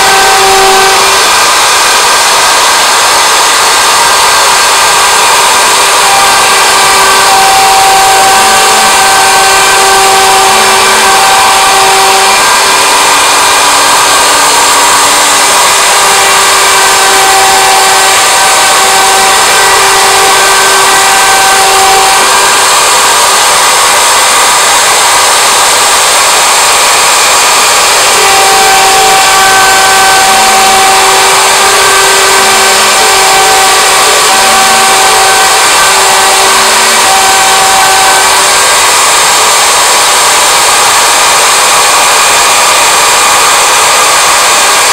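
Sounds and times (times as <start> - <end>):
lower motor tones: 0.0 - 44.9
router spindle whine: 0.0 - 44.9.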